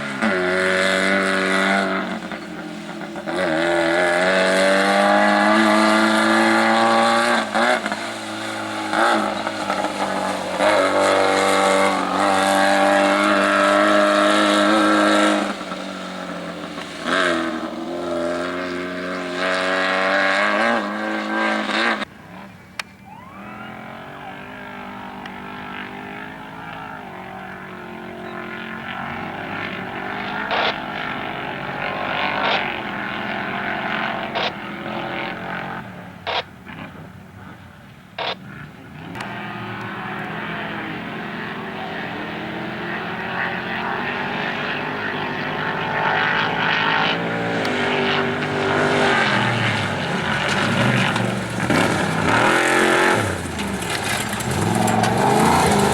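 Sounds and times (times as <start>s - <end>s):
race car engine at high revs: 0.0s - 37.2s, 38.2s - 55.9s.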